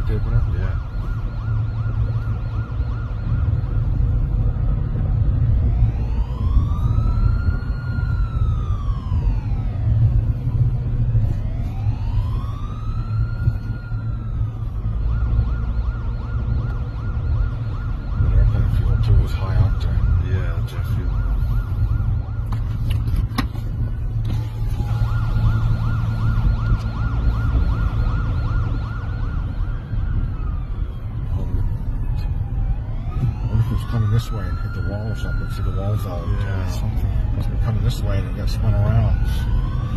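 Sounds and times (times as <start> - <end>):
car engine and road rumble: 0.0 - 39.9
emergency siren wail and yelp: 0.0 - 39.9.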